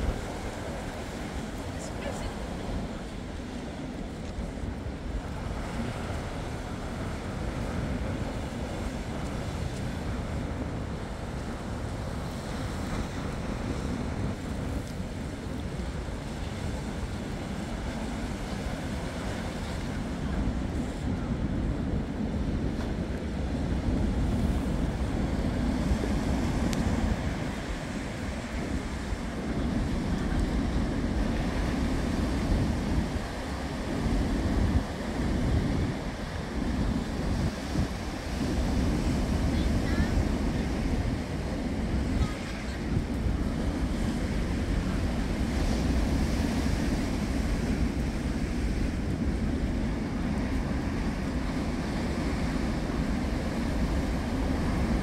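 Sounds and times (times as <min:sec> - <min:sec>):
surf breaking on beach: 0:00.0 - 0:55.0
wind gusting on microphone: 0:00.0 - 0:55.0.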